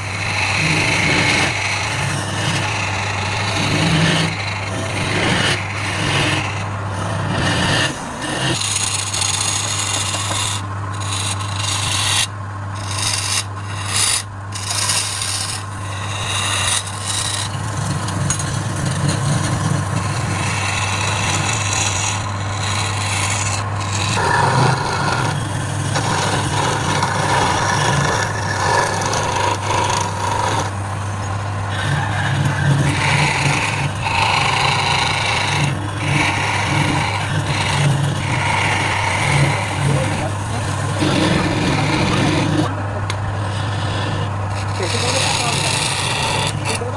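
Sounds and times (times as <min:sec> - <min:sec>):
lathe motor hum: 0:00.0 - 0:46.9
tool scraping spinning wood: 0:00.0 - 0:46.9.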